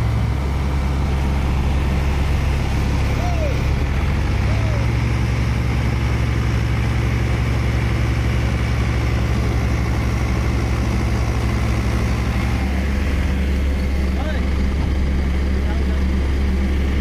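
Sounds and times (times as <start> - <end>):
diesel engines running: 0.0 - 17.0.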